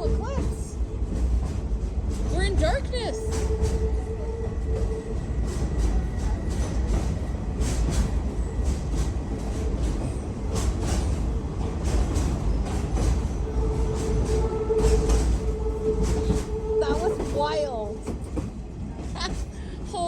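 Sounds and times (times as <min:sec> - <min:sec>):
rail clicks and clacks: 0:00.0 - 0:20.0
train wheels rumbling: 0:00.0 - 0:20.0.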